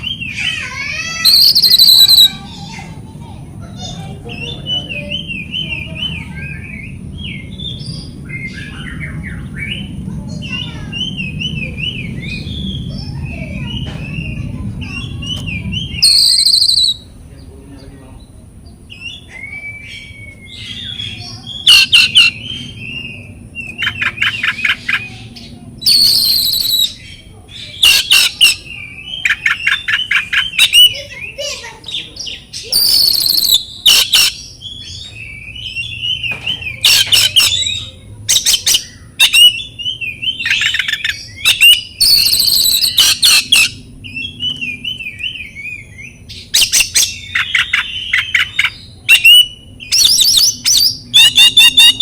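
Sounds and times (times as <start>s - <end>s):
bird singing twittering notes: 0.0s - 2.5s, 4.2s - 52.0s.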